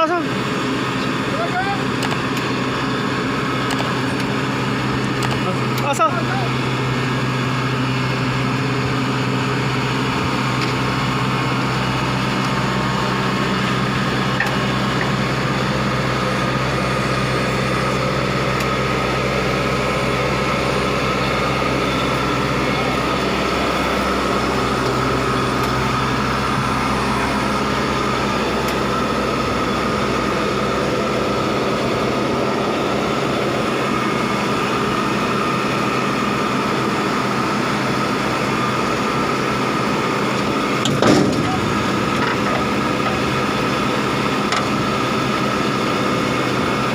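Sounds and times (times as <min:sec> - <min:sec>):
engine running with whine: 0:00.0 - 0:46.9.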